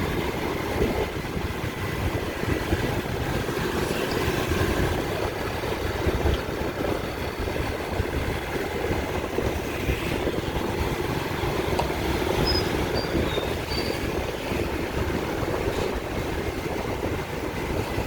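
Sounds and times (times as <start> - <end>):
car engines passing: 0.0 - 18.0
rumble of street traffic: 0.0 - 18.0.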